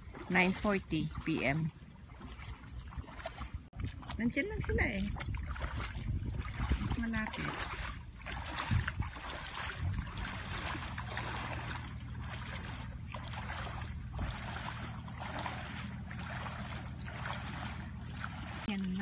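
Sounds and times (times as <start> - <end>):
steady low rumble: 0.0 - 19.0
wading through shallow water: 0.0 - 19.0.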